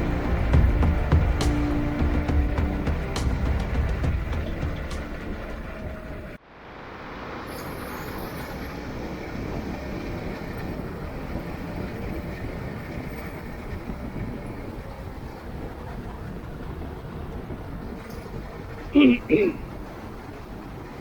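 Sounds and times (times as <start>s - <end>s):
motorcycle rumbling: 0.0s - 6.4s, 8.9s - 21.0s
road and wind noise: 0.0s - 21.0s.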